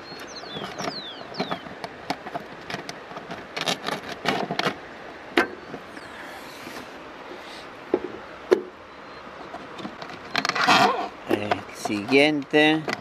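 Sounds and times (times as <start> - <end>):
hand scraping wet stones: 0.0 - 7.0, 9.3 - 13.0.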